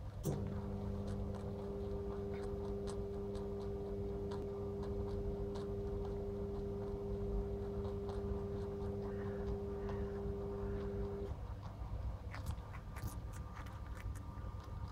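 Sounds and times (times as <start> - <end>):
low two-tone hum: 0.0 - 14.9.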